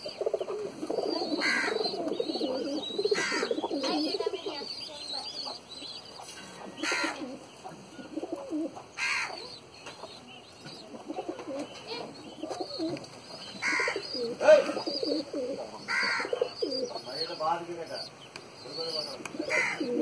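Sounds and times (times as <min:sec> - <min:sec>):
pigeons cooing: 0:00.0 - 0:20.0
sharp high pigeon calls: 0:00.0 - 0:20.0.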